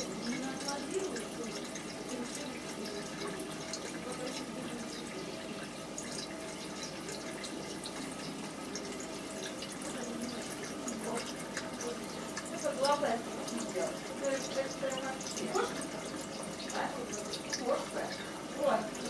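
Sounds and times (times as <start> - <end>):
water drips: 0.0 - 19.0
water trickling and splashing: 0.0 - 19.0.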